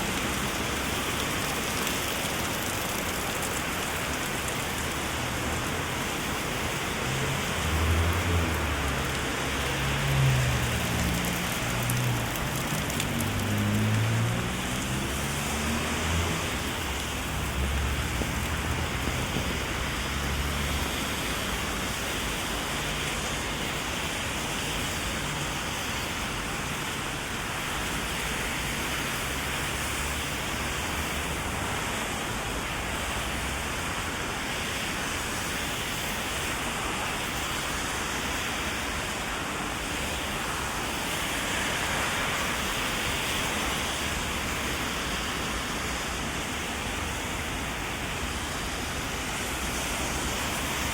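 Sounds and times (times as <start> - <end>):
heavy rain hiss: 0.0 - 50.9.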